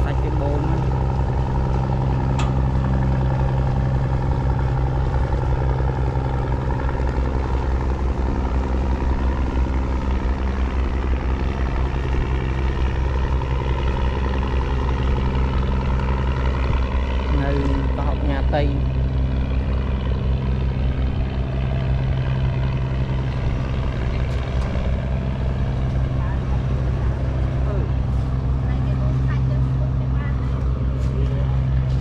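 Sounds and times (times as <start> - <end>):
steady engine drone: 0.0 - 32.0.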